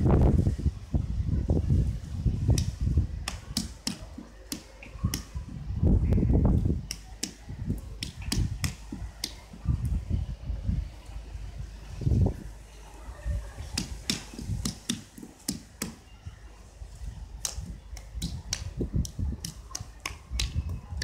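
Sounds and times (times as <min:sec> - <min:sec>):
wind buffeting microphone: 0:00.0 - 0:04.2, 0:05.0 - 0:15.0, 0:16.2 - 0:21.0.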